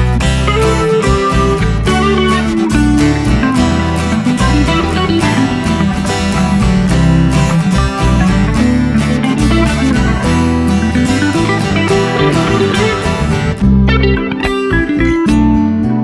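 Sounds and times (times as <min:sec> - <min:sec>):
steady bass line: 0:00.0 - 0:16.0
strummed and plucked guitar: 0:00.0 - 0:16.0.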